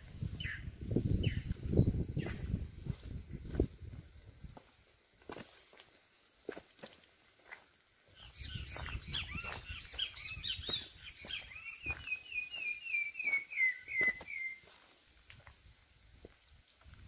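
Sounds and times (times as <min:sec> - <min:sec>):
songbird singing: 0:00.0 - 0:05.2, 0:07.3 - 0:16.8.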